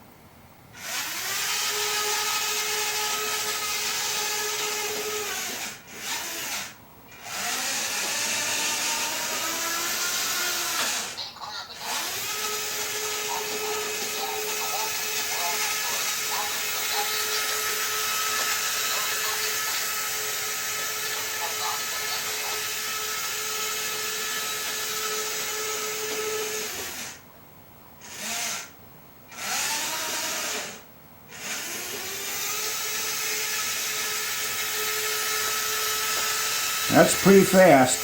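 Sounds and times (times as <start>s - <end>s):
toy electric motor whining: 0.8s - 27.2s, 28.0s - 28.7s, 29.3s - 37.9s.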